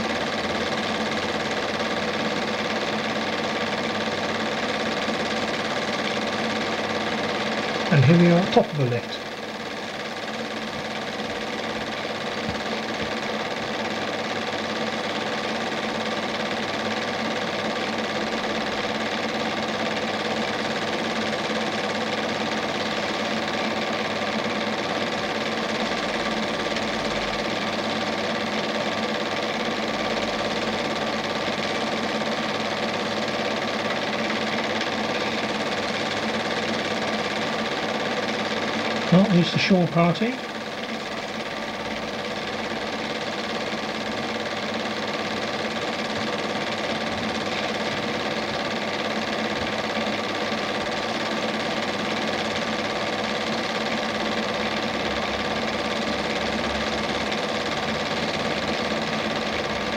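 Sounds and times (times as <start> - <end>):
multi-tone hum: 0.0 - 48.7
film projector whirring and clattering: 0.0 - 59.9.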